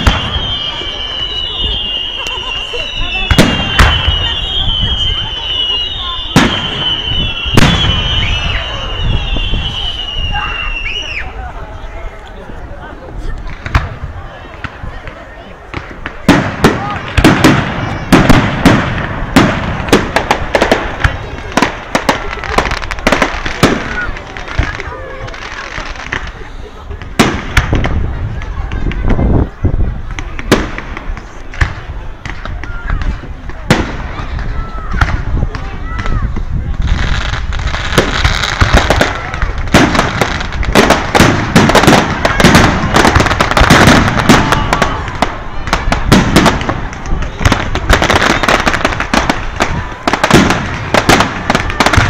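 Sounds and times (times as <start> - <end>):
fireworks bangs and pops: 0.0 - 11.2, 13.1 - 52.0
hiss of rising fireworks: 0.0 - 52.0.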